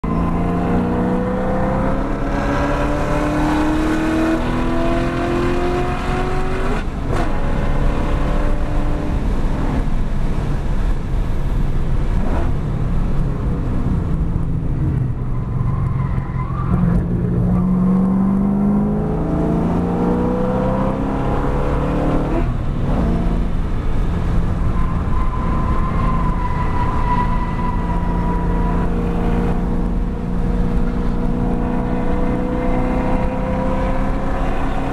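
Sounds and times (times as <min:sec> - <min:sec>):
car engine accelerating hard: 0:00.0 - 0:10.0, 0:16.6 - 0:34.9
road and wind noise: 0:00.0 - 0:34.9.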